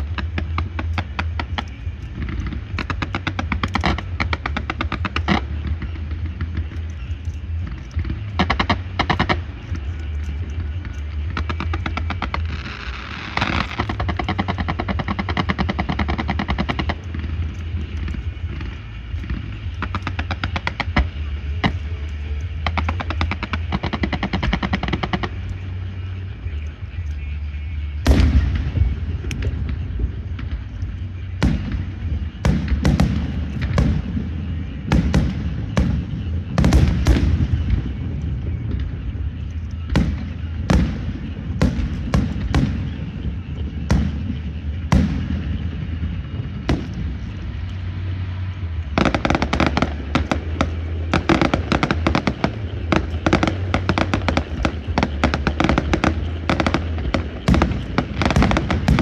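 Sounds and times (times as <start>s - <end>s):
fireworks banging: 0.0s - 59.0s
rapid firecracker crackle: 0.0s - 59.0s
steady low hum: 0.0s - 59.0s.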